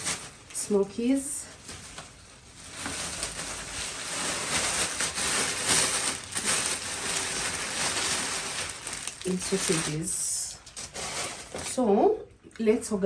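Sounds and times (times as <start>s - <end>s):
plastic packaging rustling: 0.0s - 12.1s.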